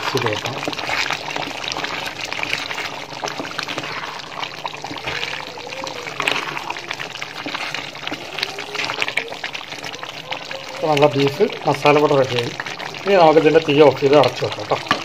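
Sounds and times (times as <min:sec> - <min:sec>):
spoon stirring thick gravy: 0:00.0 - 0:15.0.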